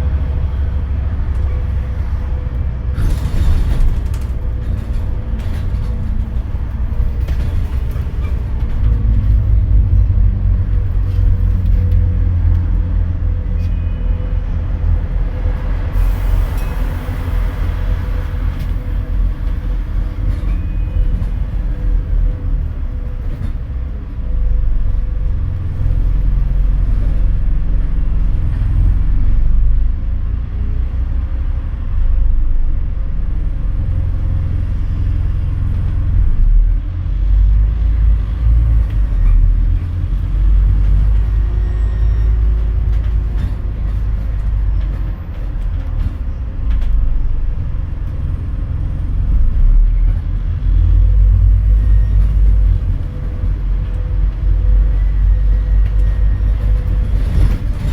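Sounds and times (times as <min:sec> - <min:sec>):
bus diesel engine rumbling: 0:00.0 - 0:57.9.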